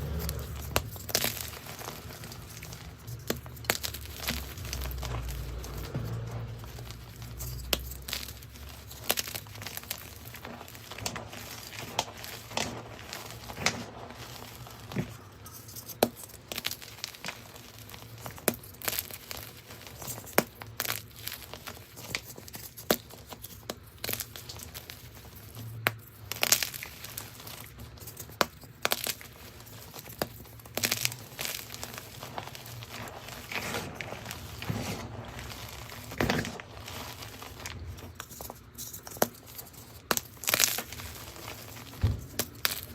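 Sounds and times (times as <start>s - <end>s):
chalk crunching and crackling: 0.0s - 42.9s.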